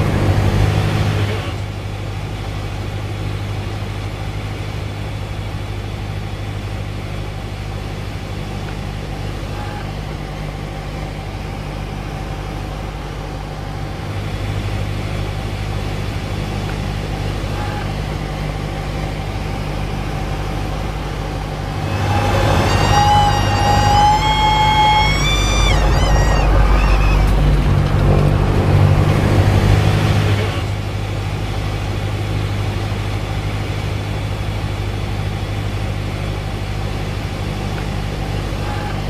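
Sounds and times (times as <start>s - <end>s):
plane engine and propeller droning: 0.0s - 39.0s.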